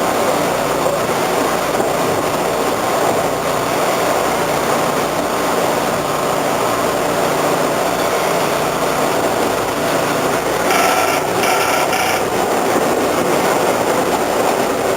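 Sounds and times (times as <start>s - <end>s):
subway car running noise: 0.0s - 14.9s
ventilation fan grinding: 0.0s - 14.9s.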